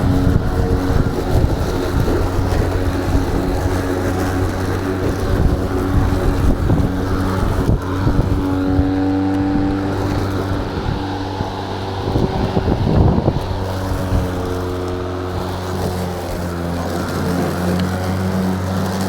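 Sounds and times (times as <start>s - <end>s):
electric lawn mower humming: 0.0s - 19.0s.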